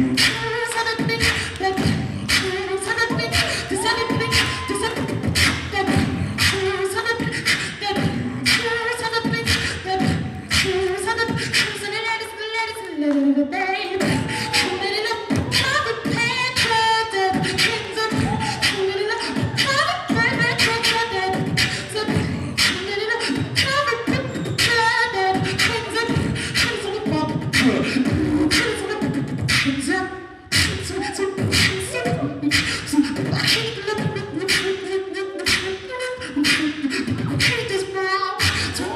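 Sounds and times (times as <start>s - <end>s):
beatboxing into a microphone: 0.0s - 38.9s.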